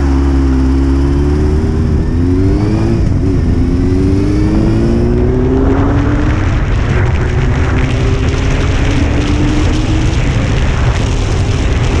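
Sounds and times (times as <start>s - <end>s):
motorcycle engine accelerating: 0.0s - 12.0s
wind buffeting microphone: 1.2s - 12.0s.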